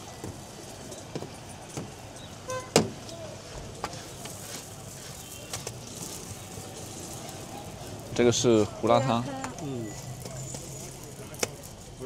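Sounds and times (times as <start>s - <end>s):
busy street market noise: 0.0s - 12.0s.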